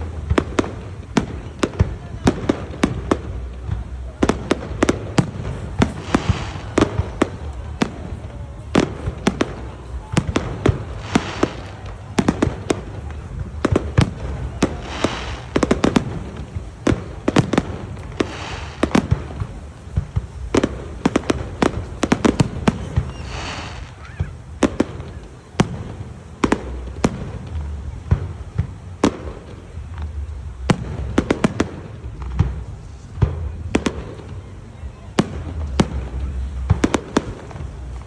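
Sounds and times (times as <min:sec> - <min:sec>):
fireworks banging and cracking: 0:00.0 - 0:38.0
fireworks hissing: 0:00.0 - 0:38.0.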